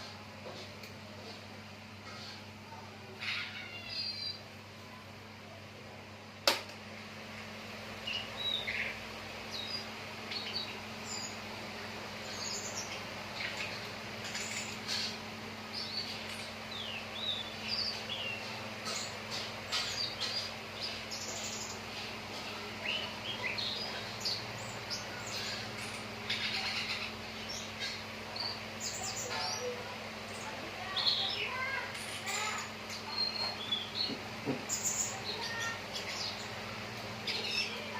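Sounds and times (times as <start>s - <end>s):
songbird chirping and trilling: 0.0s - 5.7s, 7.4s - 37.9s
steady low hum: 0.0s - 37.9s.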